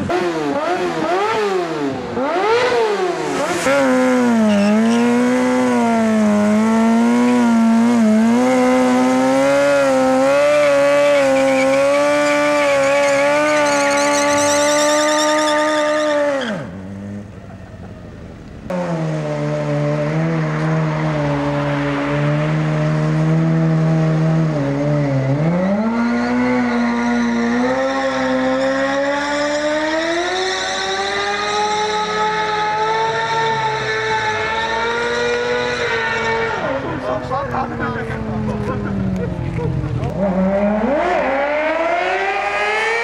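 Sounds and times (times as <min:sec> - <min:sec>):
motorcycle engine at high revs: 0:00.0 - 0:17.3, 0:18.7 - 0:43.0.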